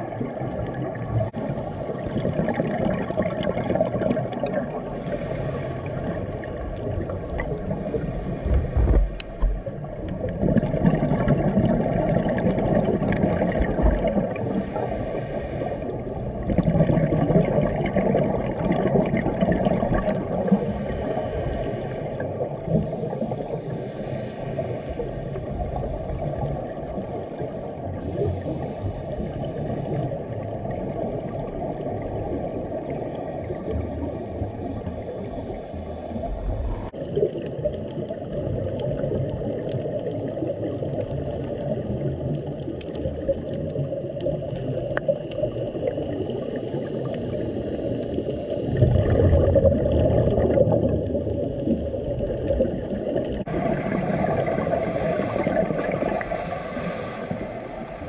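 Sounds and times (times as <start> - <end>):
muffled underwater rush: 0.0 - 58.0.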